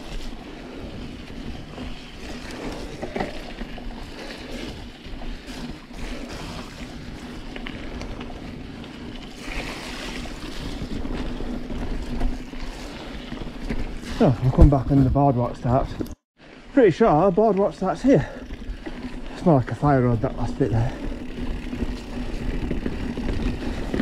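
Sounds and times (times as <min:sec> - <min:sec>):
bike tyres rolling on mud: 0:00.0 - 0:24.0.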